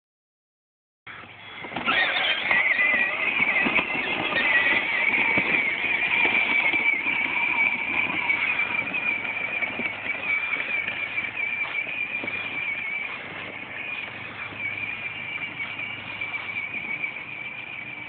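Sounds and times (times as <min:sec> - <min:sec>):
tractor engine whine: 0:01.1 - 0:18.0.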